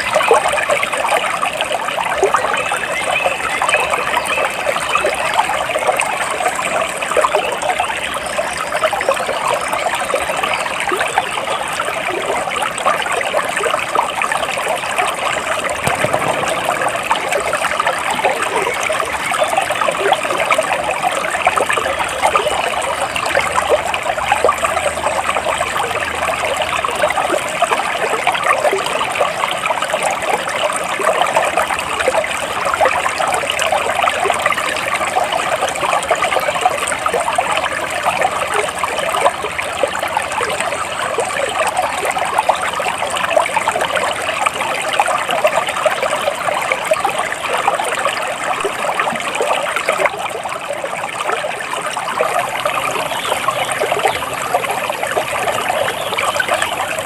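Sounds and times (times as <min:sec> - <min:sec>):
shallow stream babbling: 0:00.0 - 0:57.0.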